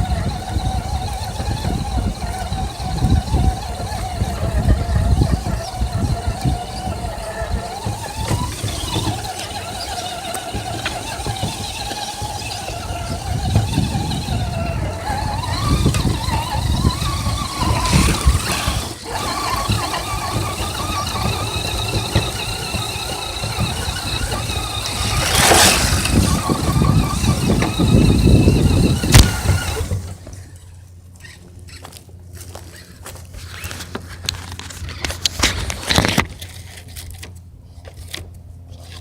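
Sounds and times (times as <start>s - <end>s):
radio-controlled car motor whining: 0.0s - 36.3s.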